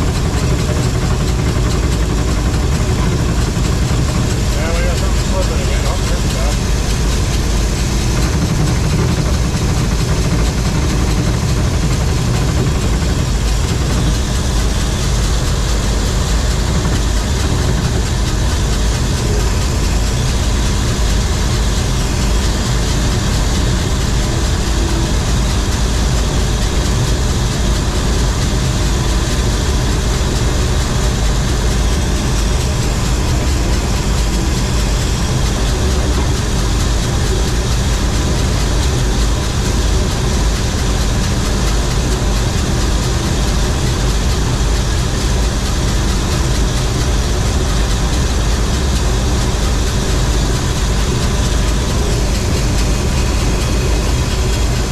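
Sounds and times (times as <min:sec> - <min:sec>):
combine harvester engine running: 0:00.0 - 0:54.9.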